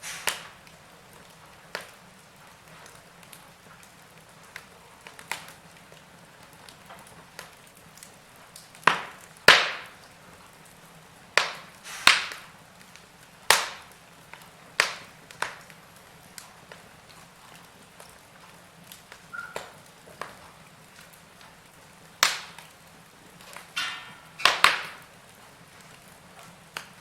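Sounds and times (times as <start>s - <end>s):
burning logs popping: 0.0s - 27.0s
wood fire crackling: 0.0s - 27.0s.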